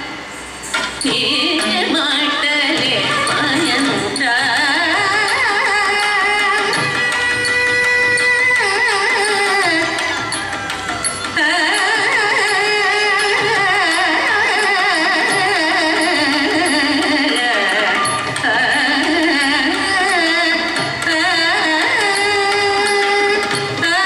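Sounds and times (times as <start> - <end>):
classical indian melody: 0.0 - 24.0.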